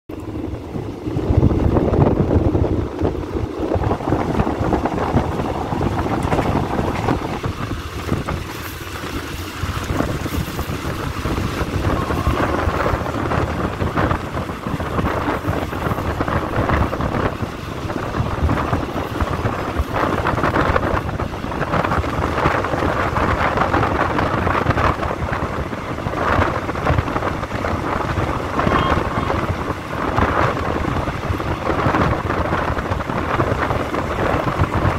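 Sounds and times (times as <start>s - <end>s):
train rumbling on rails: 0.1s - 34.9s
wind buffeting microphone: 0.1s - 34.9s.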